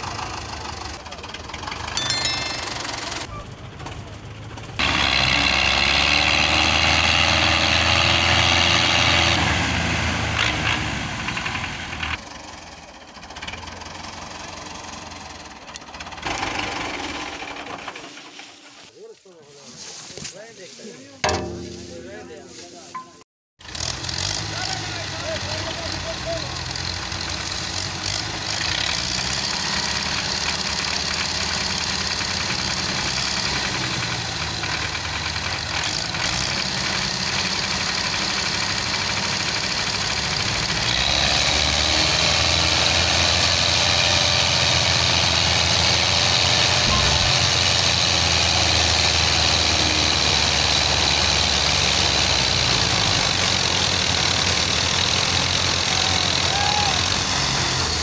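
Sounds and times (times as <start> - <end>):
tractor engines under heavy load: 0.0 - 58.0.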